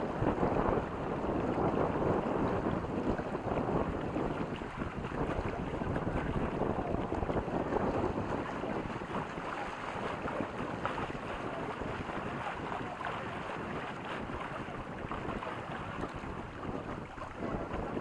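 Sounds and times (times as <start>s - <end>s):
water rushing along hulls: 0.0s - 18.0s
wind buffeting microphone: 0.0s - 18.0s.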